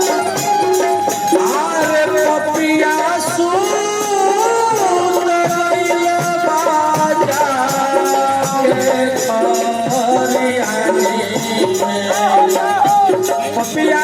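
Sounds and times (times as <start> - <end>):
steady percussion beat: 0.0 - 14.0.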